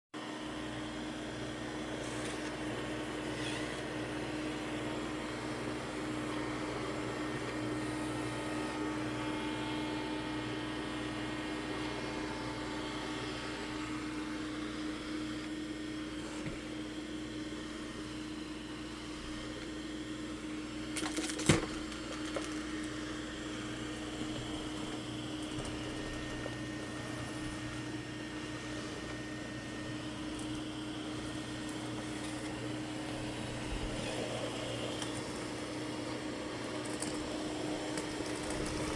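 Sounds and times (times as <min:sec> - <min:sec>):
robot vacuum motor hum: 0:00.4 - 0:38.9.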